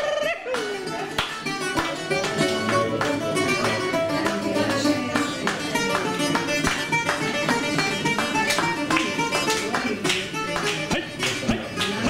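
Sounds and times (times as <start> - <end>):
bouzouki plucked notes: 0.0 - 12.0.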